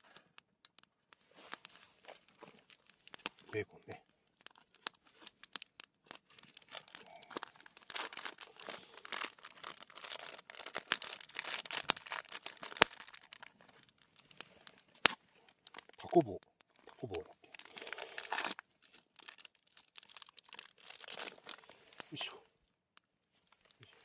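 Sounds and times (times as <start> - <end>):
plastic packaging crinkling: 0.0 - 22.2, 23.0 - 24.0.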